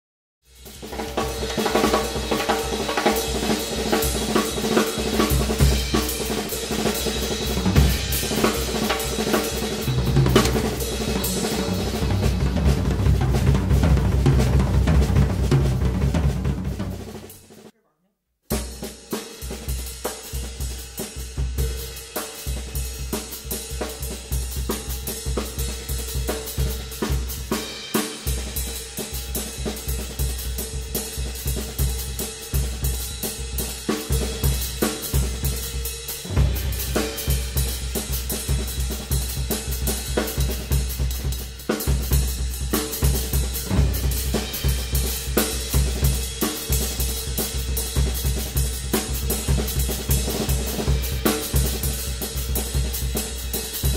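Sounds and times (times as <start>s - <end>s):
drum kit playing fast: 0.5s - 17.7s, 18.5s - 53.9s.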